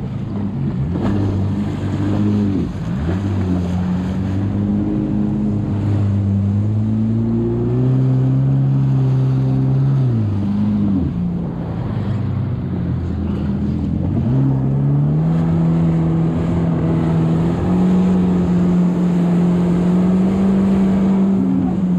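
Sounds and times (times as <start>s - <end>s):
jet ski engine revving: 0.0s - 21.9s
water rushing and spraying: 0.0s - 21.9s.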